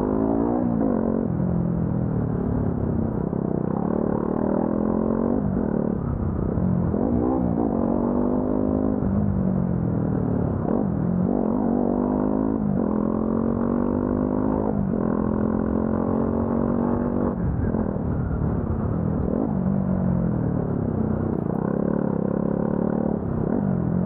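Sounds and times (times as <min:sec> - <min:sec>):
low wind rumble: 0:00.0 - 0:24.0.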